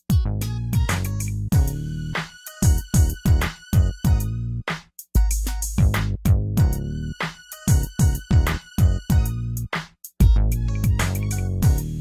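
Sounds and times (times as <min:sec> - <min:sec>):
drum machine beat: 0:00.0 - 0:12.0.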